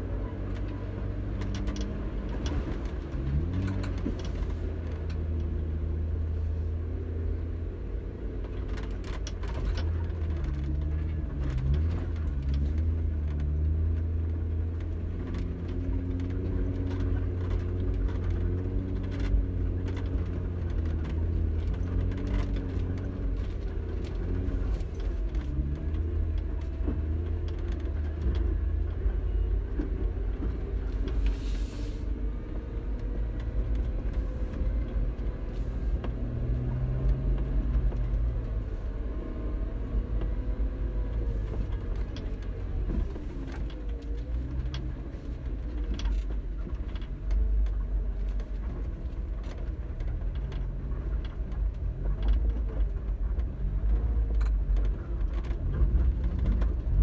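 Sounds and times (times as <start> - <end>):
car engine rumbling: 0.0 - 57.0.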